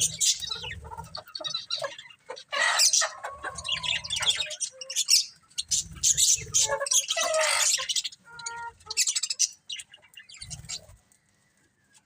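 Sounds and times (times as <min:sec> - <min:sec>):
bird squawk: 0:00.0 - 0:10.8
budgerigars chirping and chattering: 0:00.0 - 0:11.0.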